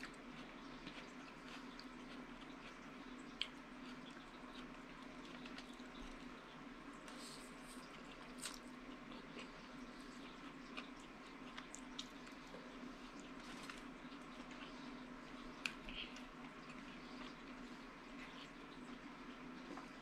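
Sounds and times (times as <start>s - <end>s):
person chewing and lip-smacking: 0.0s - 6.2s, 7.6s - 14.9s, 15.5s - 19.9s.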